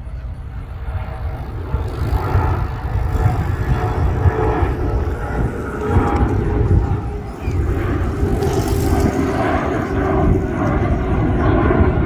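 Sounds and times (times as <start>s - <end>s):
jet engines rumbling and droning: 0.0s - 12.0s.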